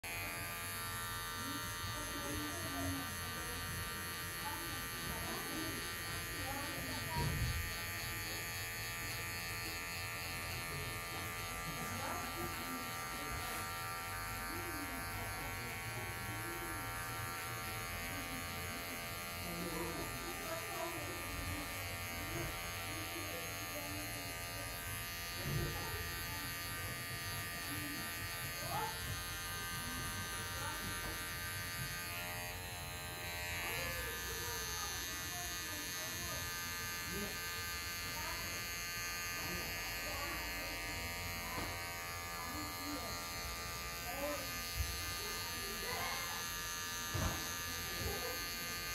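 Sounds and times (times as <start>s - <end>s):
electric hair clipper buzzing: 0.0s - 48.9s.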